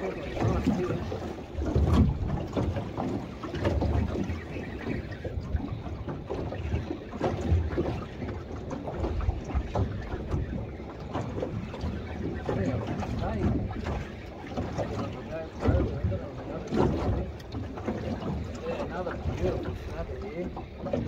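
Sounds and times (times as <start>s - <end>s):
choppy sea water: 0.0s - 21.0s
wind buffeting microphone: 0.0s - 21.0s.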